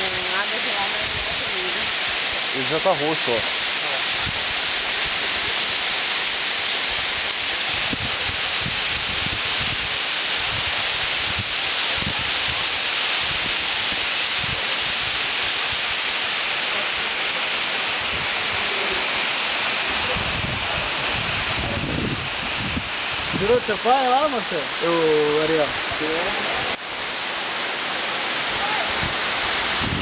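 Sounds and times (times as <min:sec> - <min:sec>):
waterfall pouring over rocks: 0:00.0 - 0:30.0.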